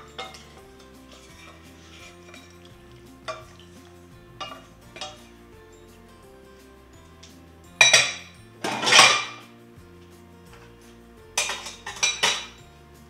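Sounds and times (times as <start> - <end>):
saucepan and utensils clattering: 0.0 - 12.8
background music: 0.0 - 13.0.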